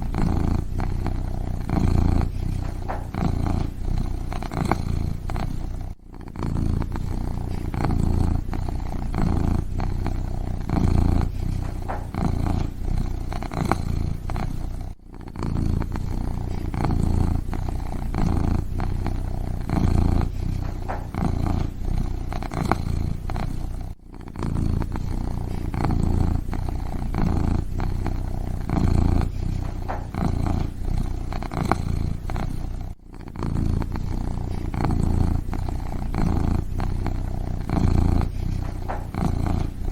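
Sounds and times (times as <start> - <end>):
kitten purring: 0.0 - 39.9.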